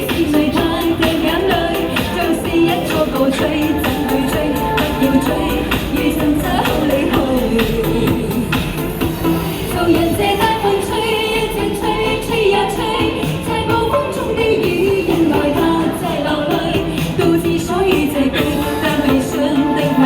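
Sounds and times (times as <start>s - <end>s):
accompaniment music: 0.0s - 20.0s
woman singing pop song: 0.0s - 20.0s.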